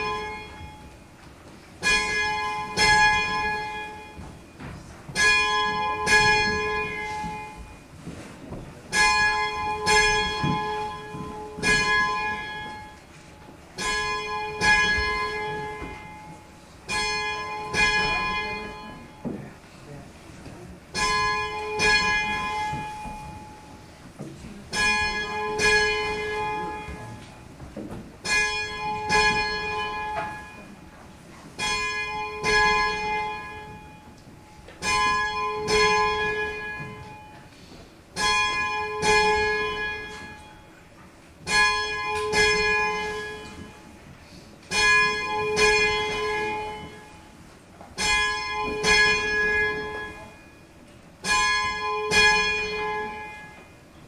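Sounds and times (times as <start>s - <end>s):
church bell tolling: 0.0s - 19.6s, 20.8s - 54.0s.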